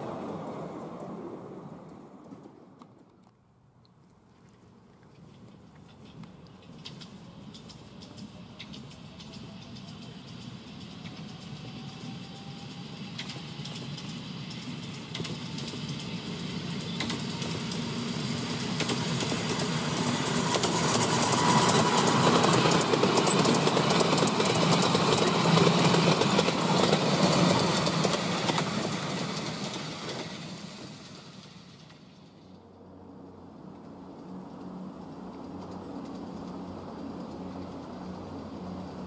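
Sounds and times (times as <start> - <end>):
miniature train passing: 0.0 - 3.7, 5.0 - 39.0
wheels clicking on rails: 4.9 - 33.0, 33.6 - 39.0.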